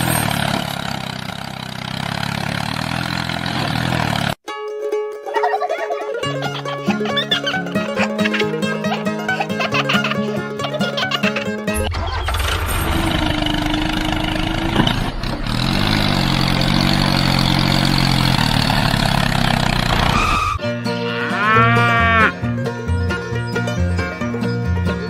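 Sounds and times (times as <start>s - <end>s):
tractor engine rumbling: 0.0s - 4.4s, 5.8s - 25.0s
plucked string music: 3.8s - 19.9s, 20.6s - 25.0s.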